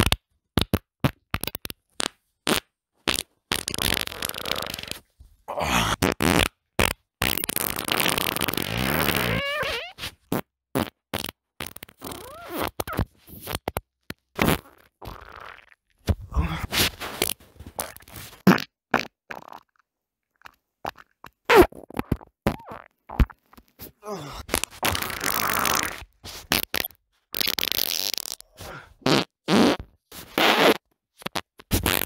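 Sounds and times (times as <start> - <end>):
human farts: 0.0 - 19.8, 20.4 - 32.0.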